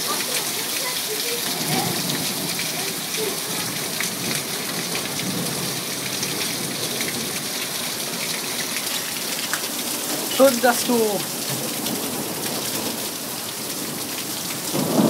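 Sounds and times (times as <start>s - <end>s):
heavy rain on street: 0.0s - 15.0s.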